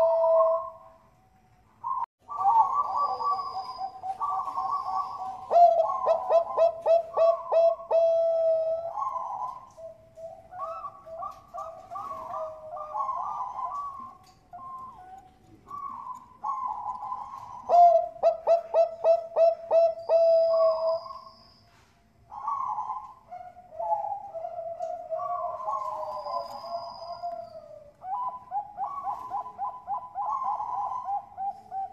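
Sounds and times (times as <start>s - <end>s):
doves cooing: 0.0s - 1.1s, 1.8s - 31.9s.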